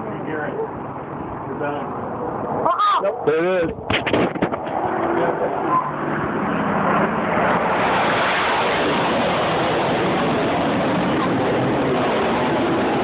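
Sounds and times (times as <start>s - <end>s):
jet engine passing overhead: 0.0s - 13.0s.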